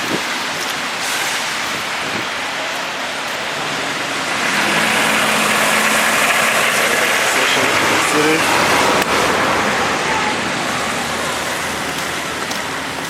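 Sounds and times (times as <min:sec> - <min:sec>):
road traffic: 0:00.0 - 0:13.0
vehicle passing: 0:02.4 - 0:13.0.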